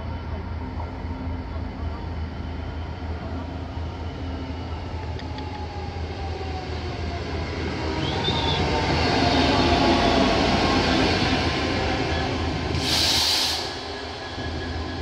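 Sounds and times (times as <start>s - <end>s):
diesel locomotive engine: 0.0s - 15.0s
train wheel and rail noise: 0.0s - 15.0s.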